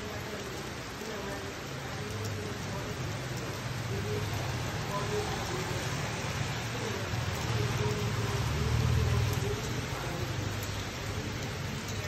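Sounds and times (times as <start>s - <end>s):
rain on a wet street: 0.0s - 12.0s.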